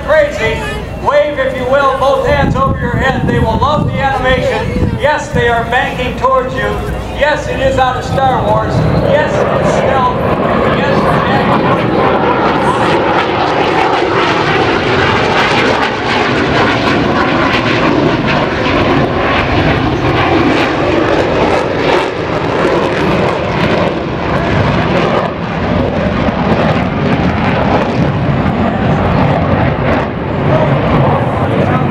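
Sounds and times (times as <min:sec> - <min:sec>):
jet roar: 0:00.0 - 0:31.9.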